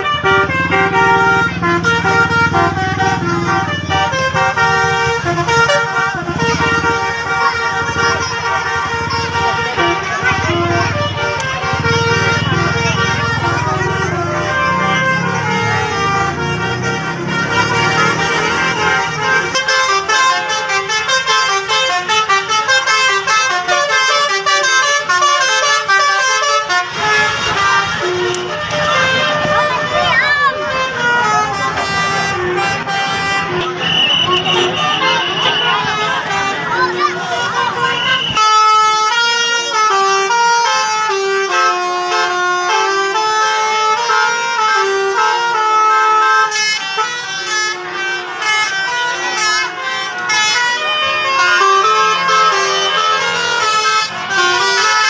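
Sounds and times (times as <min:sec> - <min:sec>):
bus engine rumble: 0:00.0 - 0:55.0
musical air horns on a bus: 0:00.0 - 0:55.0.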